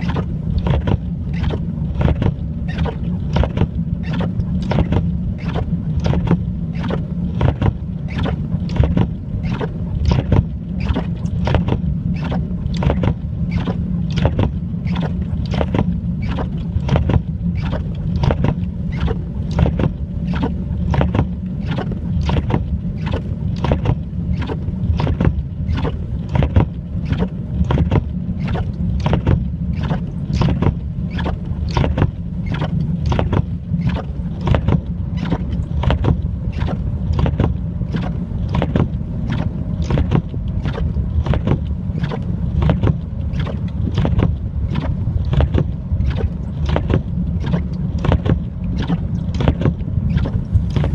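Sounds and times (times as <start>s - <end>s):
constant low rumble: 0.0s - 50.9s.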